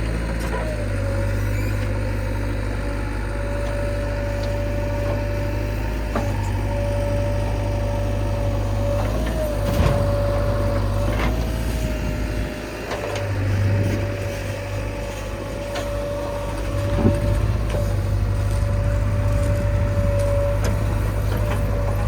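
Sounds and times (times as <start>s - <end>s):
heavy diesel machinery running: 0.0s - 22.0s
constant whine: 3.4s - 22.0s.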